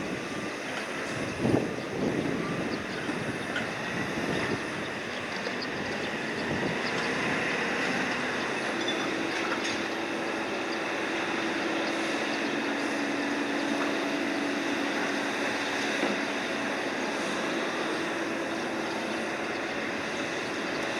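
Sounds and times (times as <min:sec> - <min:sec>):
crane machinery running: 0:00.0 - 0:20.9.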